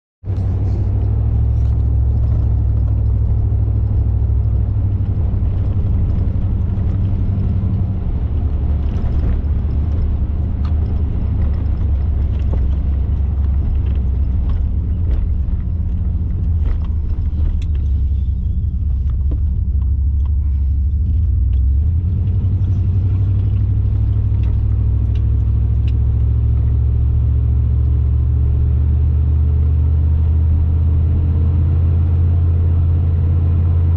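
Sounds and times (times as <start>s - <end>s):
car engine and tyre rumble: 0.2s - 33.9s.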